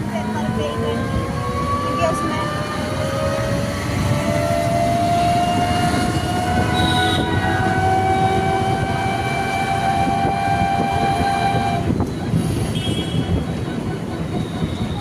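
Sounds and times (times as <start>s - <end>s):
train passing with rumble: 0.0s - 15.0s.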